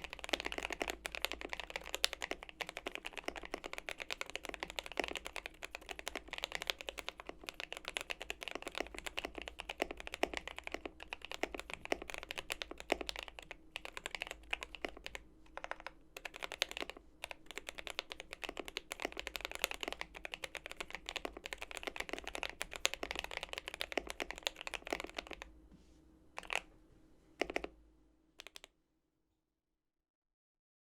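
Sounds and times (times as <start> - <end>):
mechanical keyboard typing: 0.0 - 25.5, 26.4 - 26.7, 27.4 - 27.8, 28.4 - 28.7.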